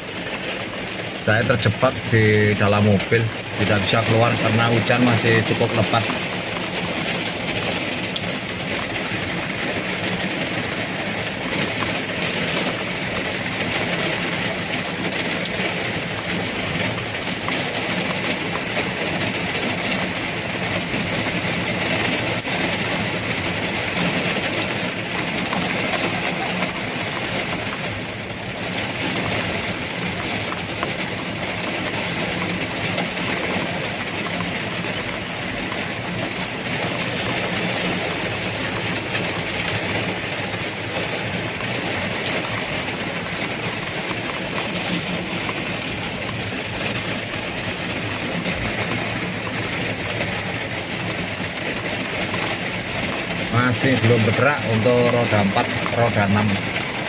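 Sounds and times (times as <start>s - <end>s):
heavy rain on car roof: 0.0s - 57.0s.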